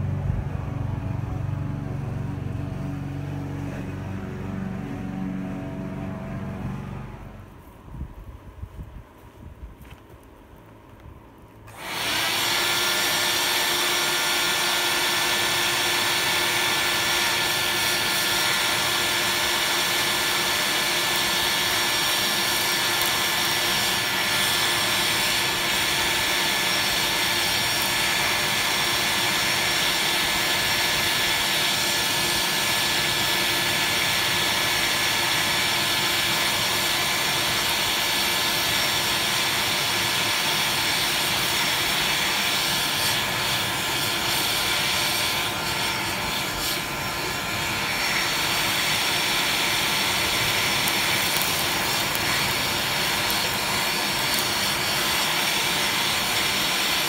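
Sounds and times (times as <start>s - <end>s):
electric blower roar with whine: 0.0s - 57.0s.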